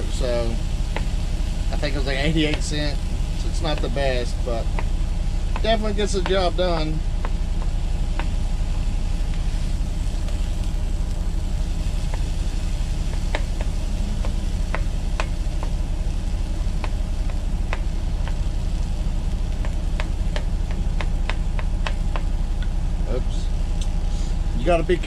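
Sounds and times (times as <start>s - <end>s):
truck diesel engine idling: 0.0s - 25.0s.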